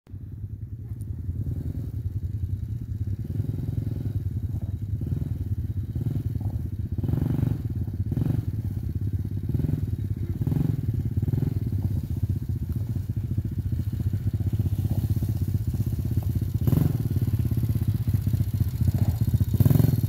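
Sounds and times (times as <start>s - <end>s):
quad bike engine running: 0.1s - 20.0s
engine throttle surges: 0.7s - 20.0s.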